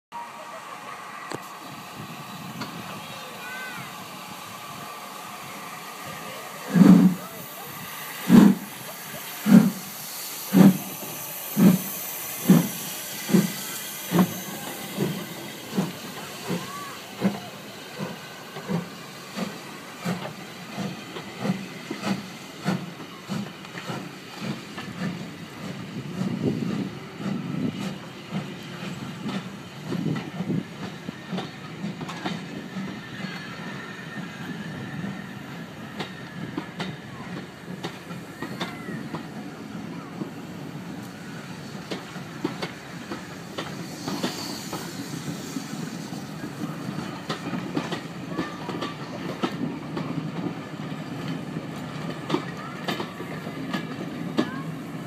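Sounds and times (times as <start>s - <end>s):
steam locomotive exhaust beats: 0.2s - 55.0s
train wheels clattering over rail joints: 8.2s - 8.8s, 9.4s - 39.4s, 40.1s - 55.0s.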